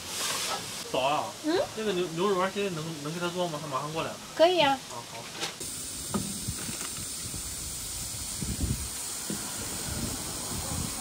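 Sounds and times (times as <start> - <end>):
steaming soup urn hissing: 0.0 - 4.3, 5.6 - 11.0.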